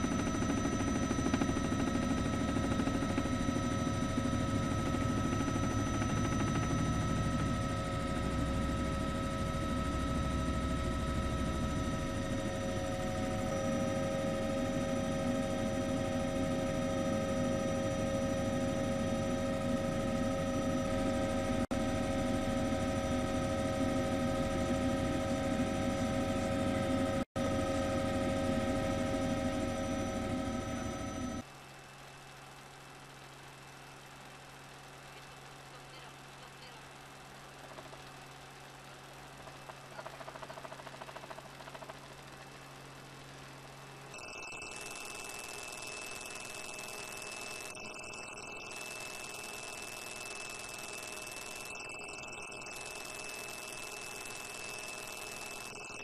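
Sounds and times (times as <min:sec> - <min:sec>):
mechanical drone with high whine: 0:00.0 - 0:56.0.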